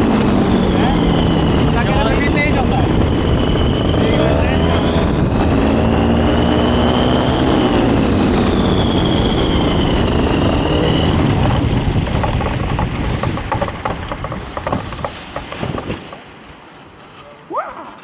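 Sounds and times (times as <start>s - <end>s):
engine whining: 0.0s - 16.2s.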